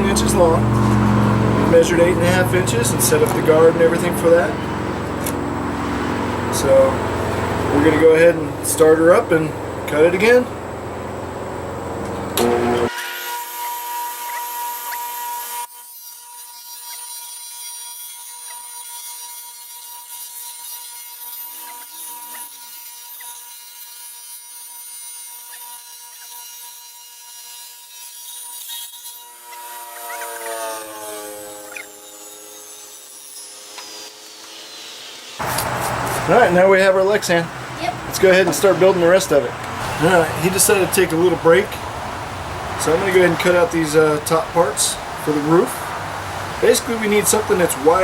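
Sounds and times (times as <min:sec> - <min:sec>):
table saw whining: 0:00.0 - 0:48.0.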